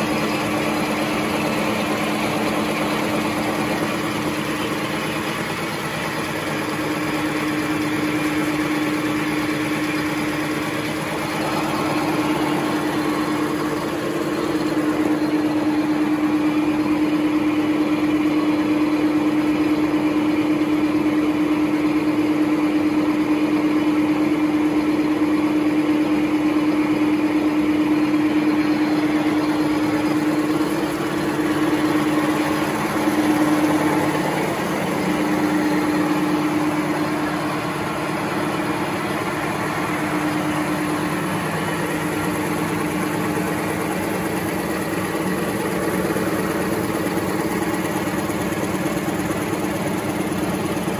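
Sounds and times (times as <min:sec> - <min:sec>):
paper machine humming and rattling: 0:00.0 - 0:50.9.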